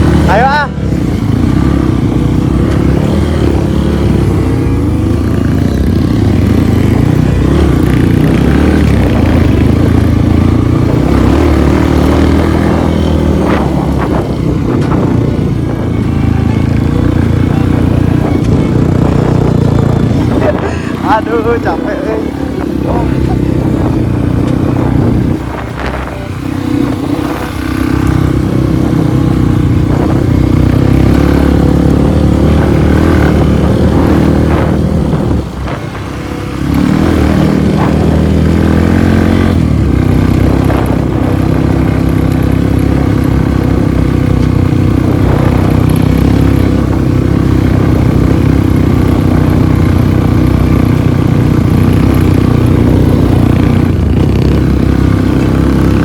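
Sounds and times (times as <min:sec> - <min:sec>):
motorcycle engine running hard: 0:00.0 - 0:56.0.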